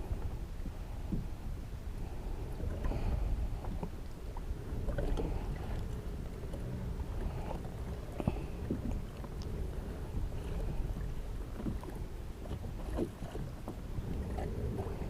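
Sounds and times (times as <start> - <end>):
low wind rumble on microphone: 0.0 - 15.0
water lapping against kayak hull: 0.0 - 15.0.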